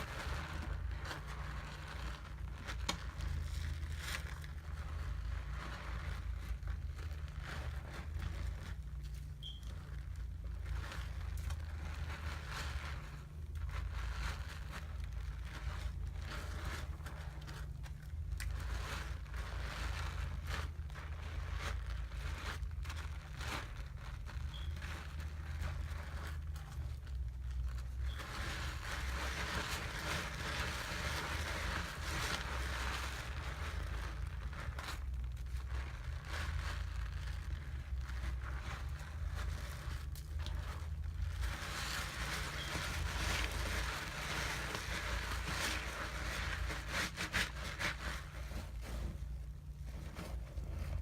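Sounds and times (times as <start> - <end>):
hands squishing soapy lather: 0.0 - 49.8
steady low hum: 0.0 - 51.0.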